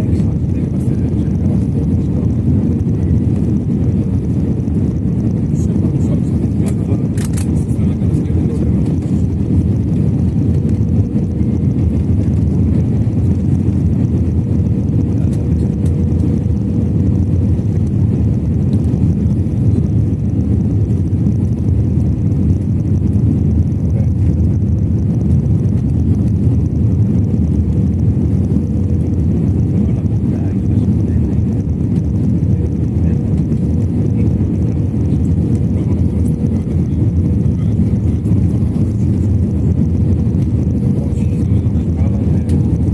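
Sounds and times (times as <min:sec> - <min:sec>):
faint constant hum: 0:00.0 - 0:42.9
jet engine roar in cabin: 0:00.0 - 0:42.9.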